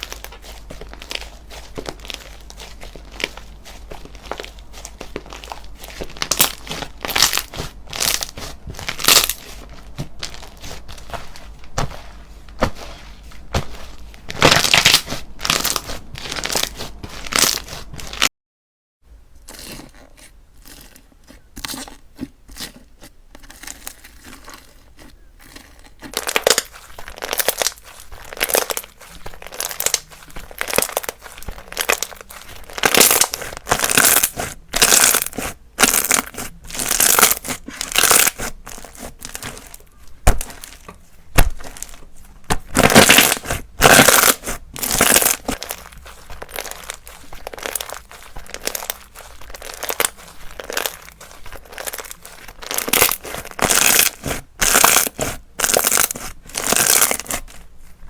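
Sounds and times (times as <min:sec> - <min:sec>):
slime squished by hand: 0:00.0 - 0:18.3, 0:21.2 - 0:58.0.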